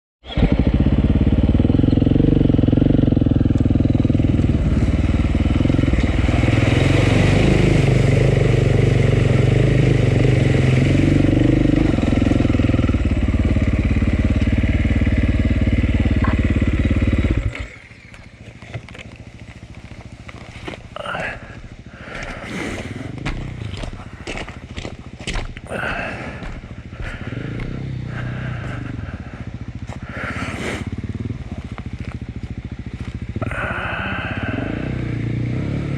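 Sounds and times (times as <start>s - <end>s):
motorcycle engine running: 0.2s - 35.9s.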